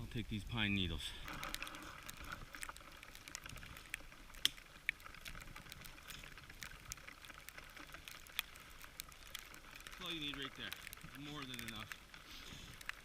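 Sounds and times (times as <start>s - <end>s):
faint steady hiss: 0.0s - 13.0s
pine needles snapping: 1.2s - 13.0s.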